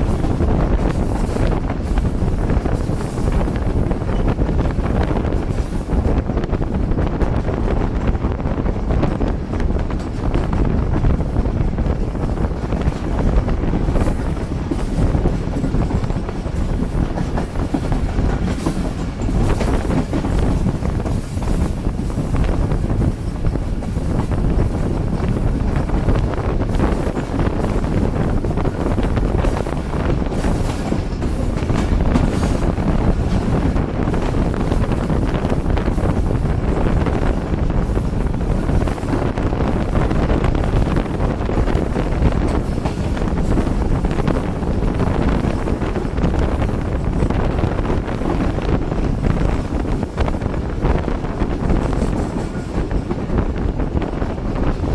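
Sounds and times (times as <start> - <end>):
rail joint clicks: 0.0 - 54.9
train wheels rumbling on rails: 0.0 - 54.9.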